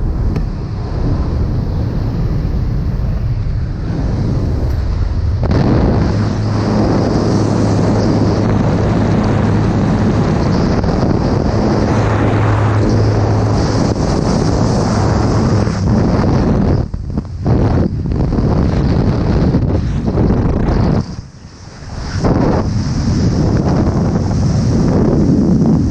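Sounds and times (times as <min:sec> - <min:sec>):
loud wind rushing over microphone: 0:00.0 - 0:25.9
steady low hum: 0:00.0 - 0:25.9.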